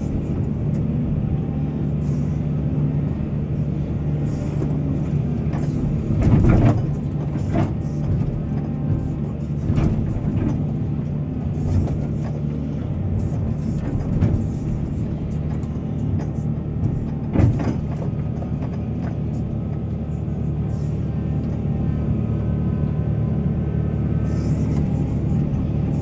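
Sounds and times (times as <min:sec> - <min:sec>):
diesel excavator engine running: 0:00.0 - 0:26.0.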